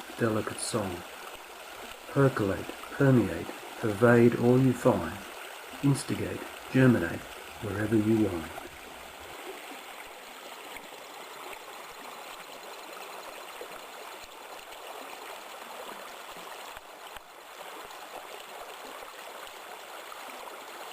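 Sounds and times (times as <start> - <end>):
creek babbling and trickling: 0.0 - 20.9.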